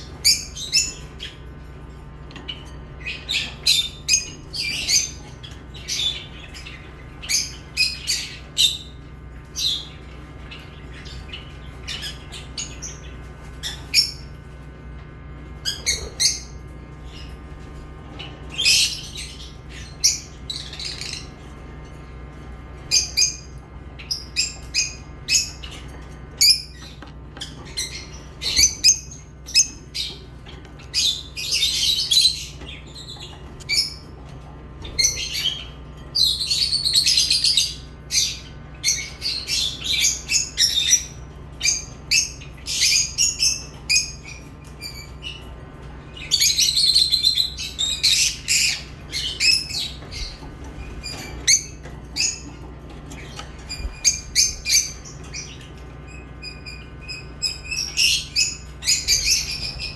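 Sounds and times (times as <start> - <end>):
lovebirds chirping: 0.0 - 14.7, 15.4 - 59.9
steady low hum: 0.0 - 59.9.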